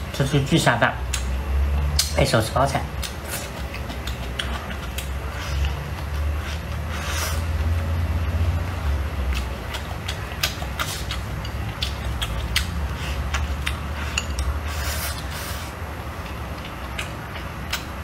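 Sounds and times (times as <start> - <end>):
person chewing and smacking: 2.9 - 18.0.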